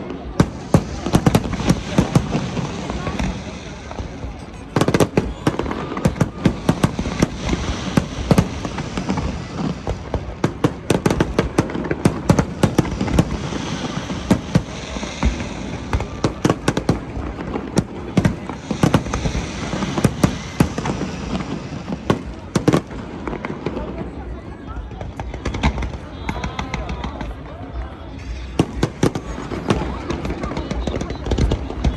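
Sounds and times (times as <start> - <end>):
fireworks bangs: 0.0 - 31.9
fireworks crackling hiss: 0.0 - 31.9.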